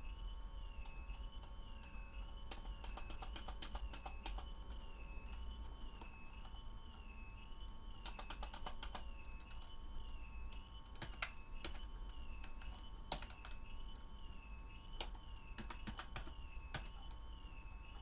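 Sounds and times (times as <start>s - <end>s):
keyboard typing: 0.8s - 7.3s, 7.9s - 14.0s, 14.8s - 17.2s.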